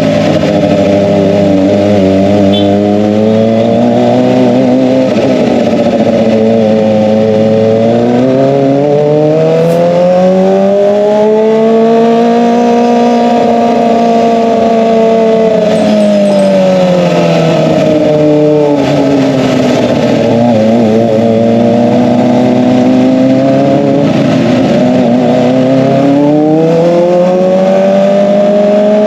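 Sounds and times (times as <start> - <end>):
motorcycle engine running loud: 0.0 - 29.0.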